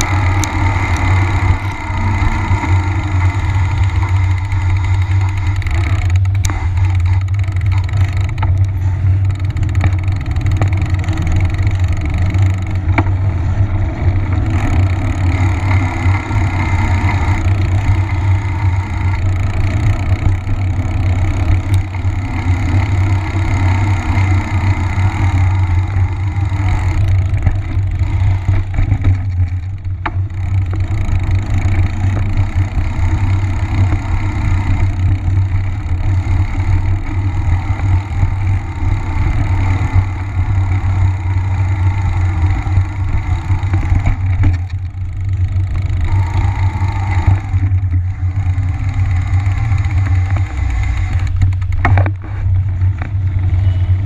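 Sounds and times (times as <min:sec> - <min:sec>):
bike tyre rolling on asphalt: 0:00.0 - 0:54.0.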